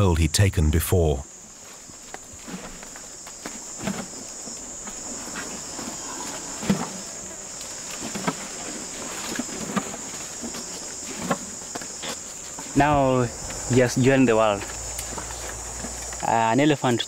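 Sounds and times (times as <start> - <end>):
high-pitched insect chorus: 1.1 - 17.0.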